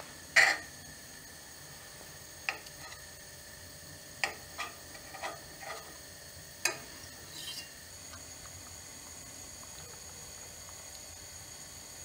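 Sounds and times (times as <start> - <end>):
butter sizzling in skillet: 0.0 - 12.0.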